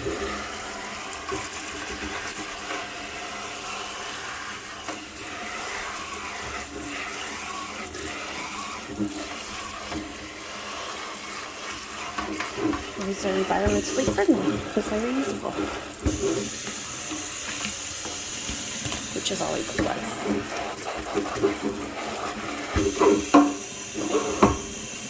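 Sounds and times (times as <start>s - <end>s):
tap water running into sink: 0.0s - 25.0s.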